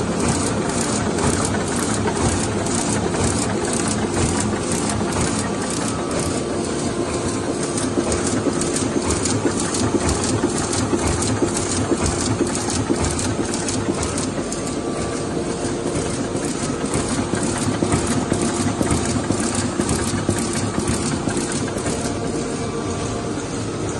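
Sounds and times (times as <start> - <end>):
printing press running: 0.0 - 23.9.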